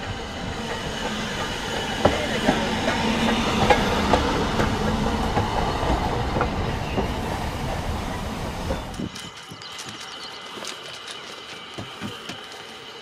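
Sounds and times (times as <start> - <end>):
train rumble: 0.0 - 13.0
wheels clicking over rail joints: 0.0 - 13.0.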